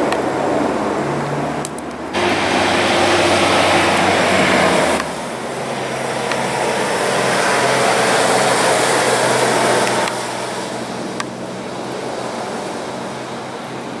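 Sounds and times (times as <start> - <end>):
fire engine diesel engine: 0.0 - 14.0
tyres hissing on wet pavement: 0.4 - 14.0.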